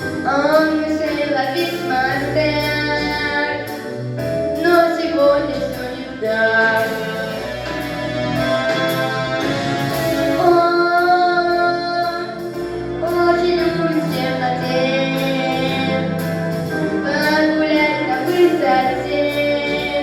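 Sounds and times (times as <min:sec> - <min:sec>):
instrumental backing track: 0:00.0 - 0:20.0.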